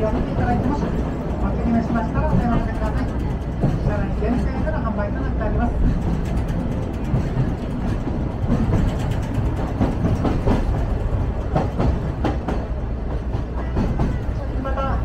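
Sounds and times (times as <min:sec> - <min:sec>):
train rumbling along track: 0:00.0 - 0:15.0.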